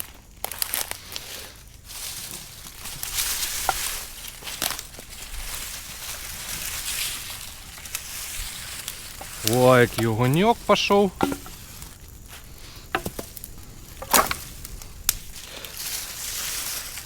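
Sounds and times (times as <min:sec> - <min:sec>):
bonfire crackling and popping: 0:00.0 - 0:17.0
fire hiss: 0:00.0 - 0:17.0.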